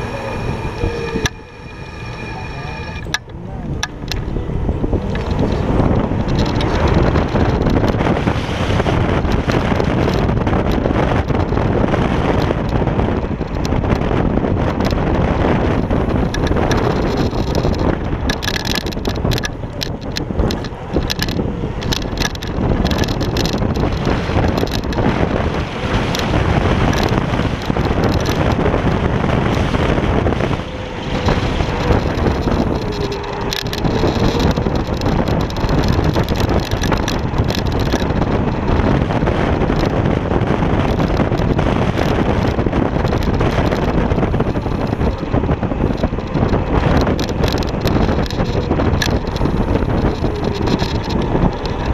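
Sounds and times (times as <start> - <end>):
tyre and road noise: 0.0 - 51.9
wind rushing over microphone: 0.0 - 51.9.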